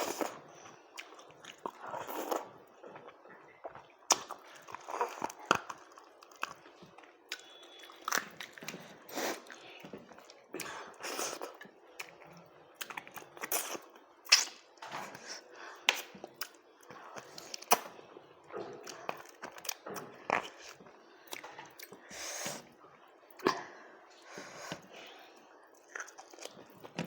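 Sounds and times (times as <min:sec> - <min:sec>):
person chewing food: 0:00.0 - 0:22.7, 0:23.4 - 0:27.0.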